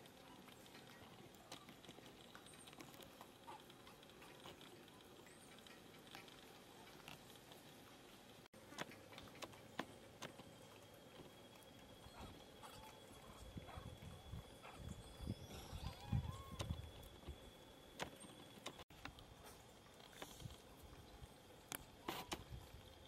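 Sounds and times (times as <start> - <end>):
faint steady high whine: 0.0 - 23.0
small clicks and ticks: 0.0 - 23.0.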